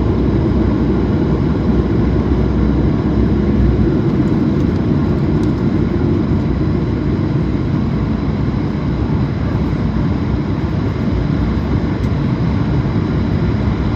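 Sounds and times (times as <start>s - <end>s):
jet engine cabin rumble: 0.0s - 13.9s.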